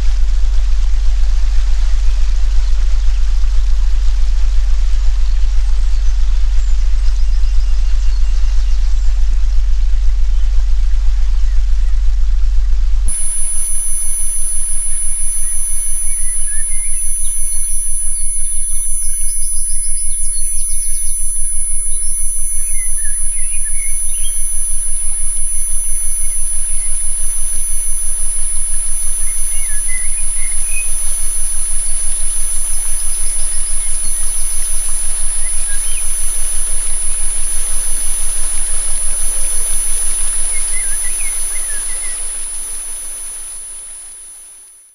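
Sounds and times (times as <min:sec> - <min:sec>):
forest ambience: 0:00.0 - 0:44.9
pulsing sine tones: 0:00.0 - 0:44.9
faint bird chirps: 0:01.5 - 0:12.4, 0:13.1 - 0:44.9.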